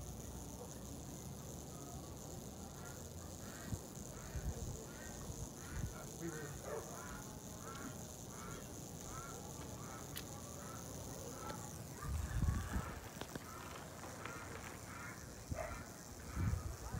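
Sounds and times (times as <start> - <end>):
steady high hiss: 0.0 - 16.9.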